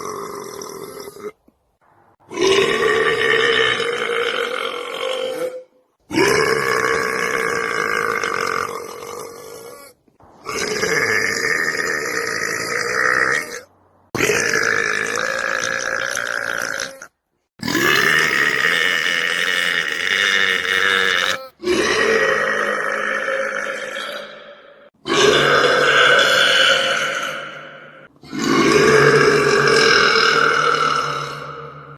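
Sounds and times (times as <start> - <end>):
man belching: 0.0 - 1.4, 2.3 - 13.6, 14.2 - 27.5, 28.3 - 31.9.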